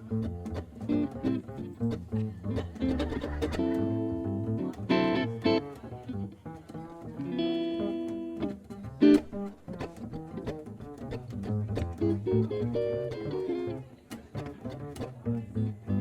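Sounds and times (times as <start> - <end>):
swing jazz tune: 0.1 - 13.8.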